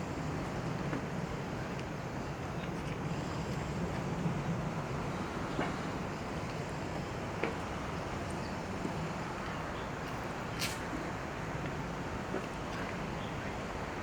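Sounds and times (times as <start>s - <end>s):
low hum of boat and traffic engines: 0.0s - 14.0s.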